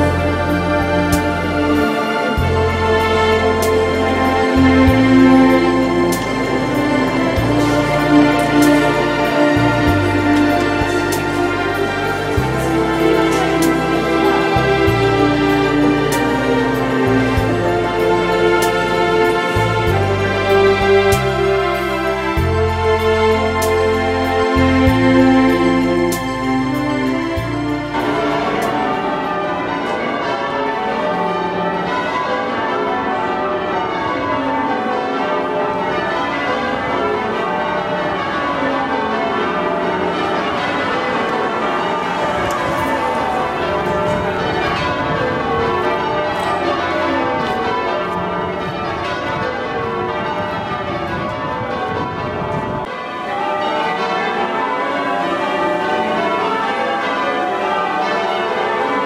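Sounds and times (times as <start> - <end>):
church bells change ringing: 0.0 - 59.0.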